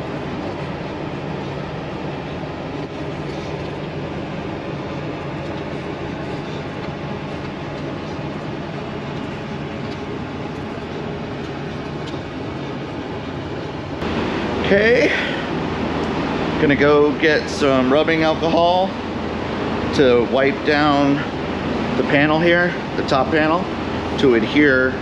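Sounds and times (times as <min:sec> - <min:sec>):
mechanical drone with low hum: 0:00.0 - 0:25.0.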